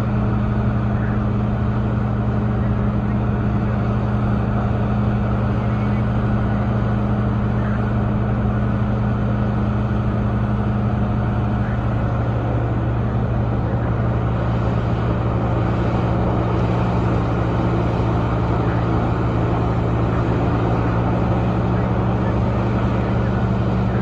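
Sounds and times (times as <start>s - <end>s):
excavator diesel engine droning: 0.0s - 24.0s.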